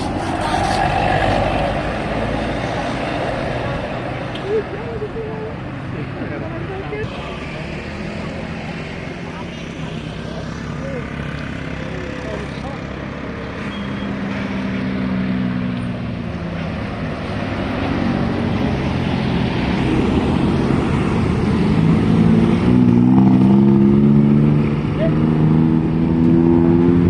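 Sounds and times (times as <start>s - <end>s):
traffic noise: 0.0s - 27.0s.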